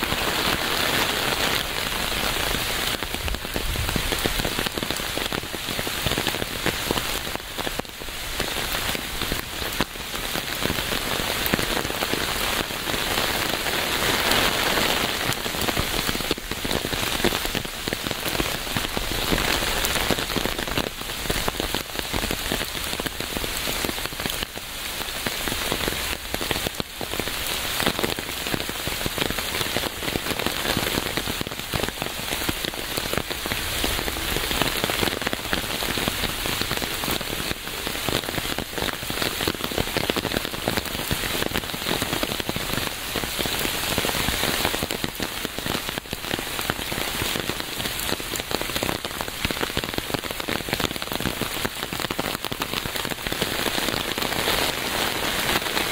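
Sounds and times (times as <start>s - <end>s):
rain pattering on a surface: 0.0s - 55.9s.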